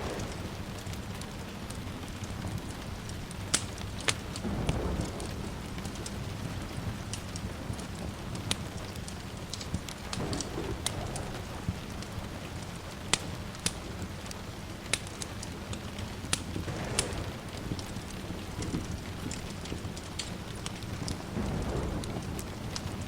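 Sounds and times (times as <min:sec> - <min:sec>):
log fire crackling: 0:00.0 - 0:23.0
rain: 0:00.0 - 0:23.0.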